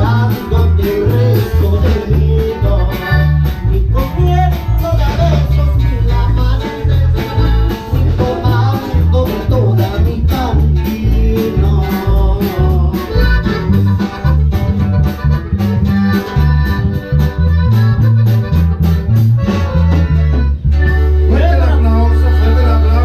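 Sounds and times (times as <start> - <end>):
live band playing latin dance music: 0.0 - 23.0.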